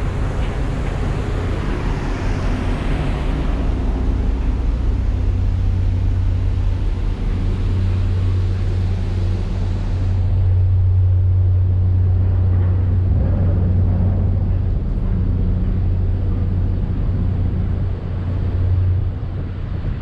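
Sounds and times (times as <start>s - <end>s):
ferry engines droning: 0.0s - 20.0s.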